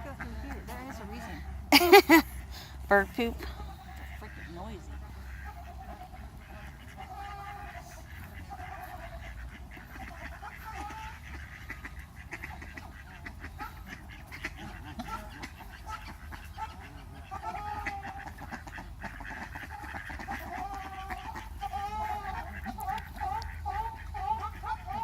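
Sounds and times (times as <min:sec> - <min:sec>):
birds calling and squawking: 0:00.0 - 0:25.0.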